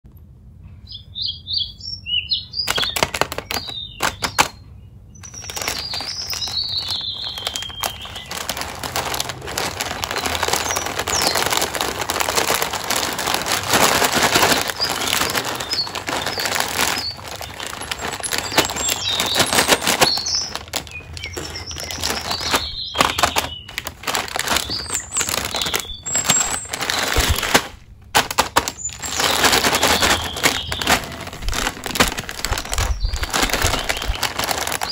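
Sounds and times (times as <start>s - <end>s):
snack pouch crinkling: 2.7s - 4.6s, 5.2s - 34.9s.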